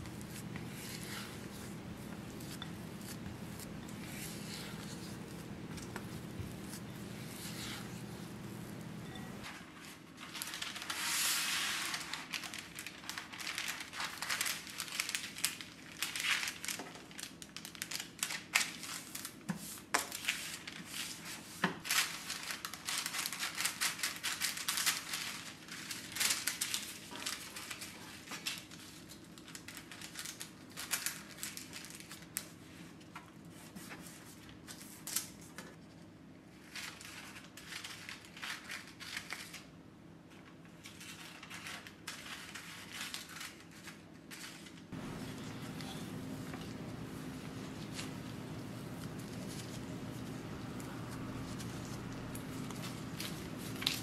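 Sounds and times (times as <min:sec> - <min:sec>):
baking paper rustling and crinkling: 0:00.0 - 0:54.0.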